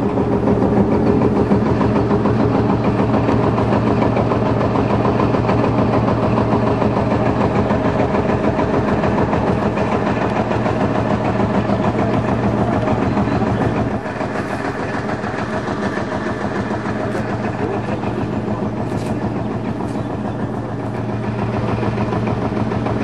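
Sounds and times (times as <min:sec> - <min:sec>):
old engine idling: 0:00.0 - 0:23.0.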